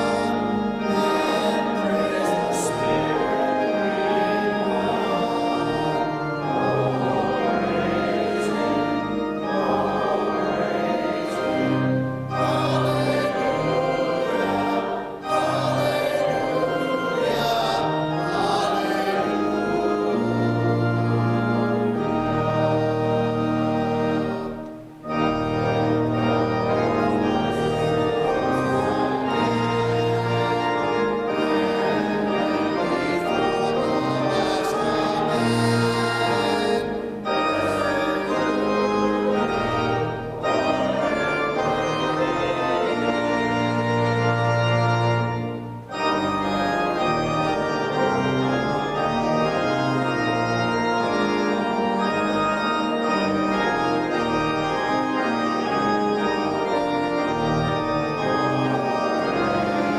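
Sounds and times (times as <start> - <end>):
organ chords: 0.0 - 59.9.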